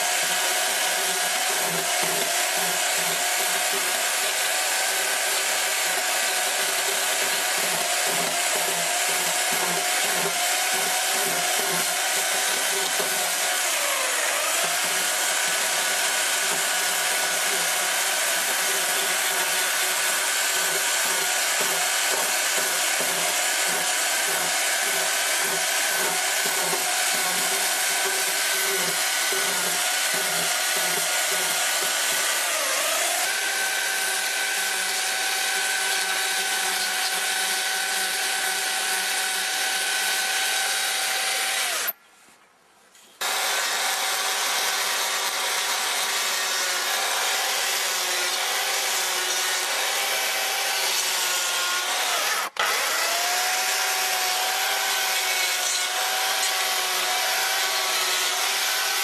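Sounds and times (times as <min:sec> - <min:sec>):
chainsaw cutting log: 0:00.0 - 0:42.0, 0:43.2 - 0:59.0.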